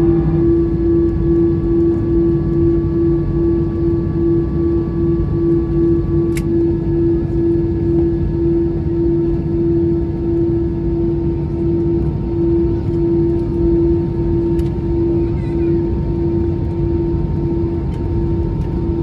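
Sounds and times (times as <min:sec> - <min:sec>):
constant cabin hum: 0:00.0 - 0:19.0
jet engines idling rumble: 0:00.0 - 0:19.0.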